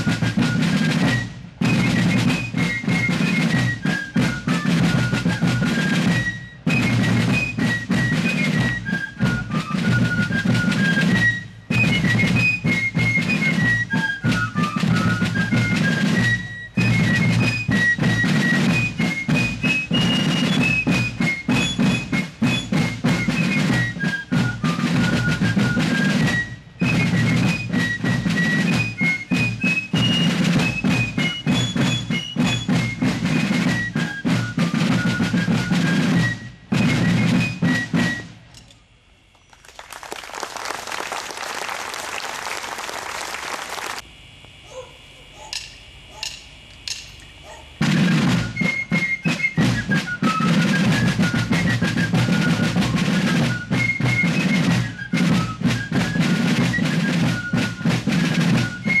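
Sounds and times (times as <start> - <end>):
fife and drum march: 0.0 - 44.0, 44.8 - 59.0.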